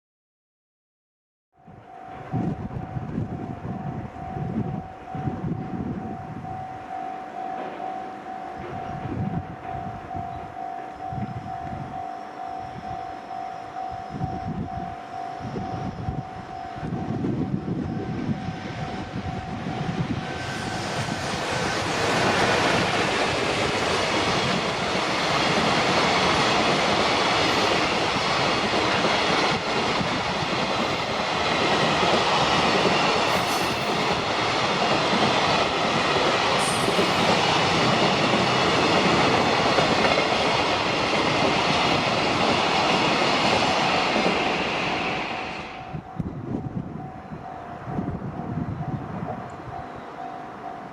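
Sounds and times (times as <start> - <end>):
level-crossing alarm ringing: 1.6 - 50.9
train passing on rails: 1.6 - 50.9.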